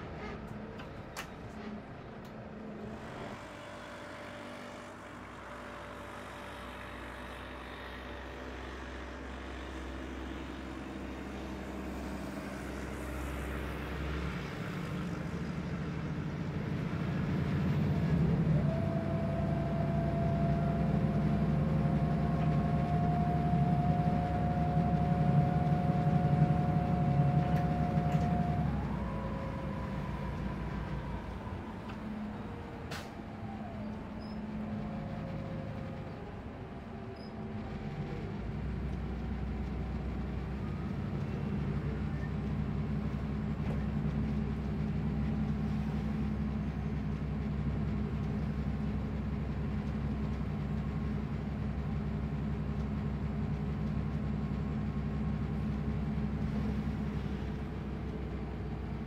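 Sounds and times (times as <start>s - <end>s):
bus engine running: 0.0s - 59.0s
drivetrain whine: 6.8s - 59.0s.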